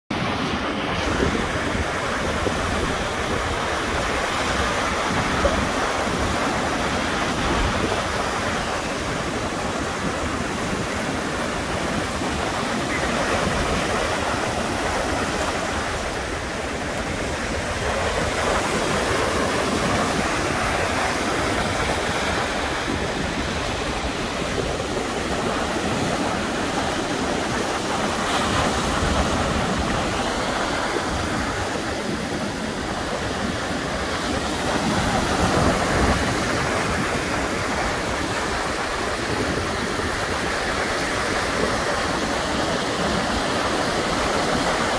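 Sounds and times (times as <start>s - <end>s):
surf waves crashing on beach: 0.1s - 44.9s.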